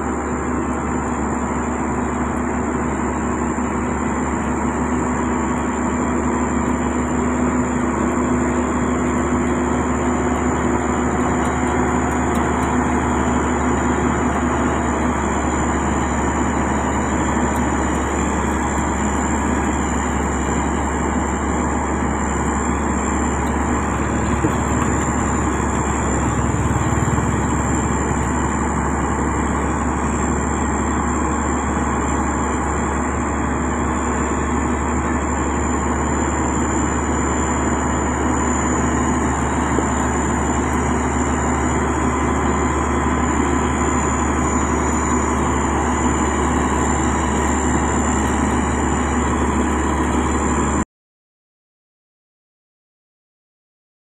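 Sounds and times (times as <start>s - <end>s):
engine hum: 0.0s - 50.8s
heavy machine engine droning: 0.0s - 50.8s
thin high whine: 0.1s - 50.7s.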